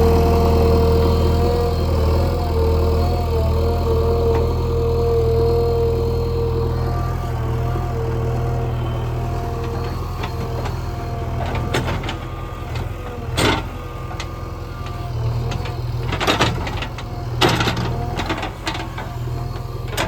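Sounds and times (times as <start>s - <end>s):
diesel engine running: 0.0s - 20.0s
digging and loading noise: 0.0s - 20.0s.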